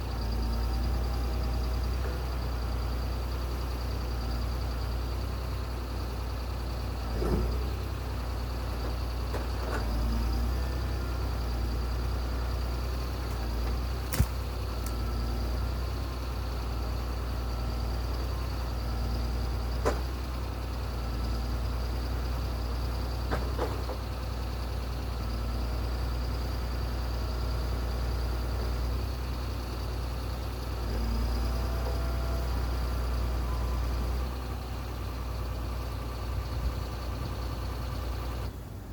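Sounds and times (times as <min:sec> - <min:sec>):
heavy machine engine droning: 0:00.0 - 0:38.9.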